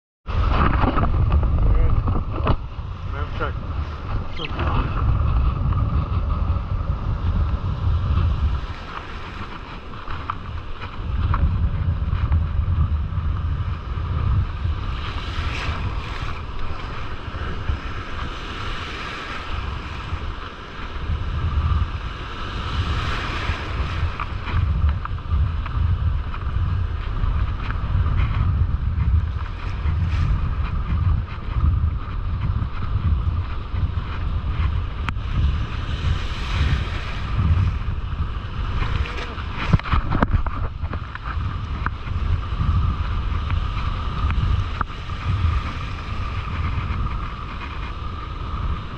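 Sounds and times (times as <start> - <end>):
wind buffeting microphone: 0.2 - 48.9
waves breaking: 0.3 - 48.9.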